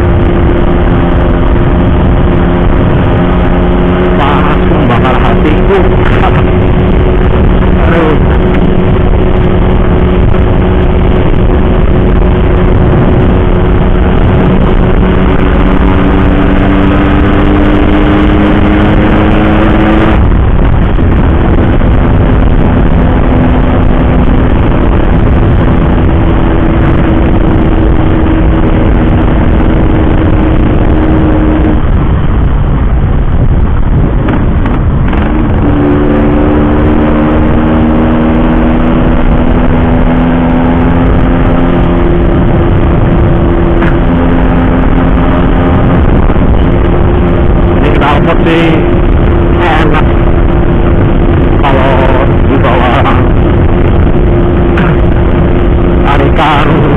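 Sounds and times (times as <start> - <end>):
two-stroke motorcycle engine revving: 0.0 - 32.8, 33.6 - 56.9.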